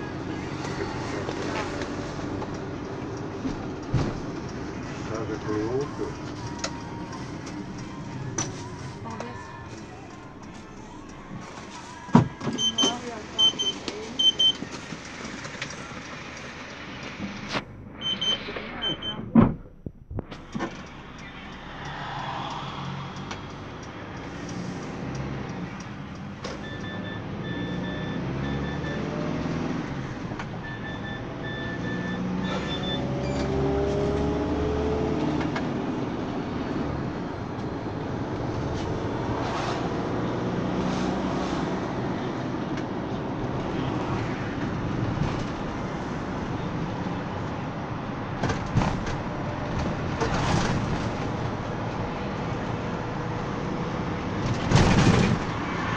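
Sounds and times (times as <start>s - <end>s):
minibus engine hum and road noise: 0.0s - 55.9s.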